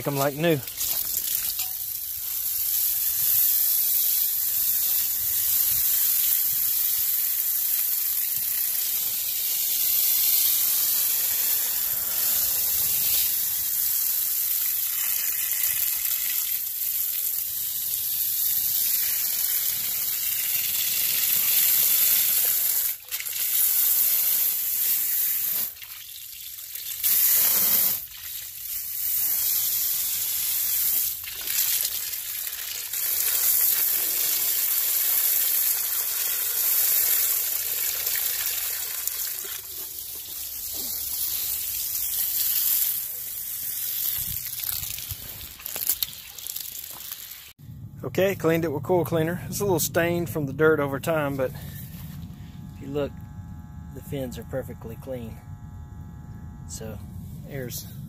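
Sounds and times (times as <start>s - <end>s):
hose spray hissing on metal fins: 0.0s - 47.6s.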